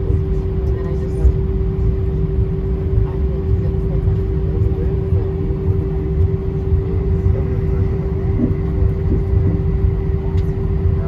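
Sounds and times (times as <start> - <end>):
airplane cabin rumble: 0.0 - 11.0
constant hum: 0.0 - 11.0.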